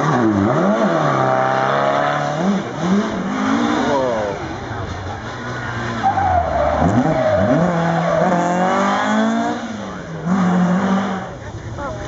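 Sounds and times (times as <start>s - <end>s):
rally car engine revving: 0.0s - 12.0s
tyres skidding: 0.0s - 12.0s.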